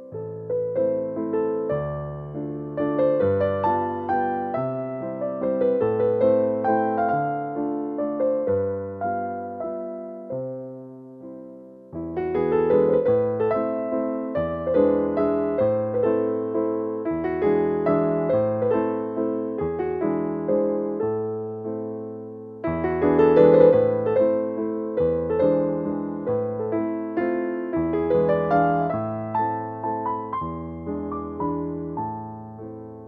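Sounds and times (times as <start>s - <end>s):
gentle piano melody: 0.0s - 33.0s.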